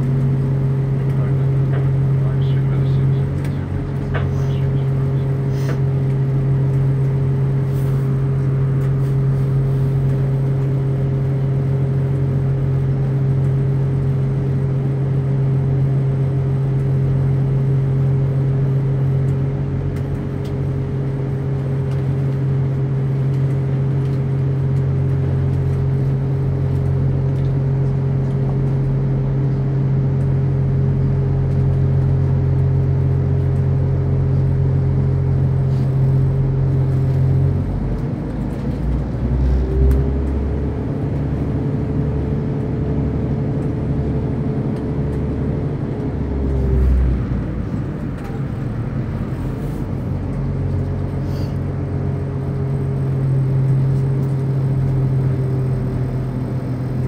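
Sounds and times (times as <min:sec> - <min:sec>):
train diesel engine drone: 0:00.0 - 0:57.0.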